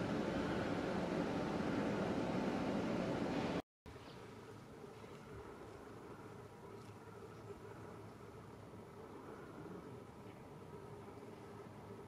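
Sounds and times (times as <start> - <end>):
faint outdoor hum and hiss: 0.0 - 12.0.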